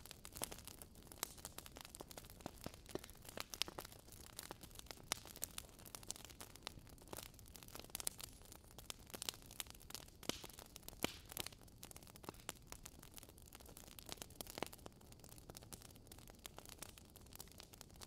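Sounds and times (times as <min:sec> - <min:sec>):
bonfire crackling and popping: 0:00.0 - 0:18.0.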